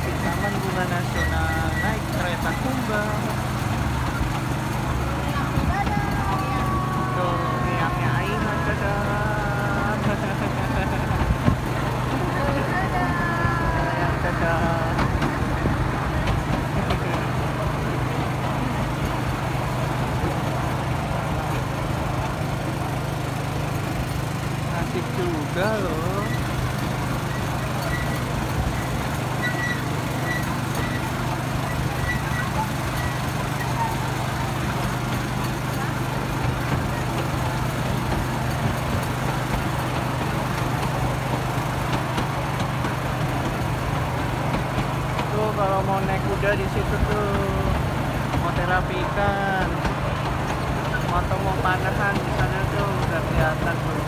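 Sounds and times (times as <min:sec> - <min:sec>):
train engine low drone: 0:00.0 - 0:54.0.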